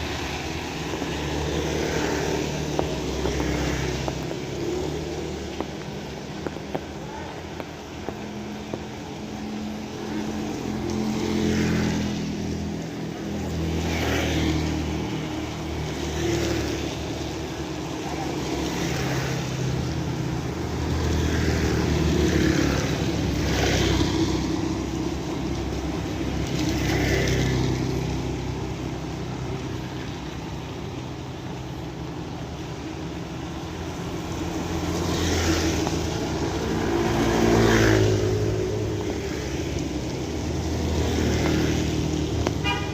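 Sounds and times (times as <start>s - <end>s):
steady rain: 0.0s - 42.9s
vehicles passing: 0.0s - 42.9s.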